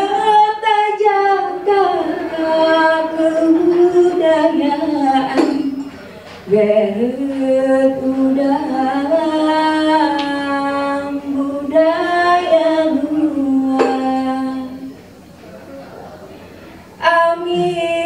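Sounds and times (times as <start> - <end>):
unaccompanied singing: 0.0 - 5.9, 6.5 - 15.0, 17.0 - 18.0.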